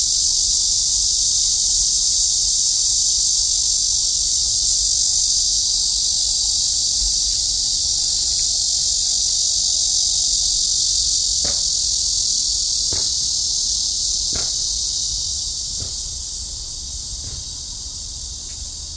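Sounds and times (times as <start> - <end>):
cicadas buzzing: 0.0 - 18.9.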